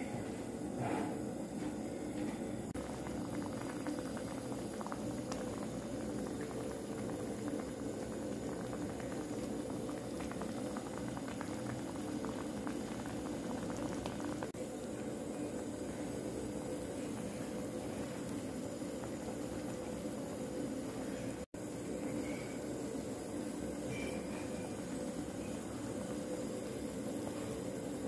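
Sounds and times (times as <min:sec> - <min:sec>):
broth boiling with bubbling pops: 0:00.1 - 0:28.0.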